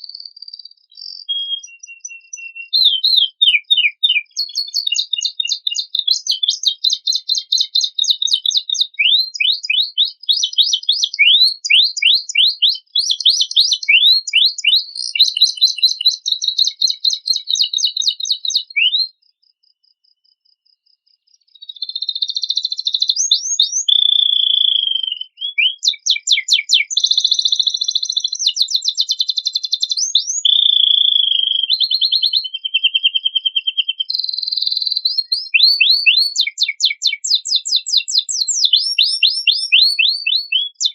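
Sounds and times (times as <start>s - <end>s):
canary singing trills: 0.0s - 19.2s, 21.3s - 40.9s.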